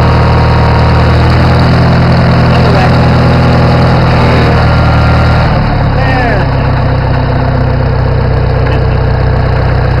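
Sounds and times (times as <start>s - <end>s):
tractor engine idling with a knock: 0.0s - 10.0s.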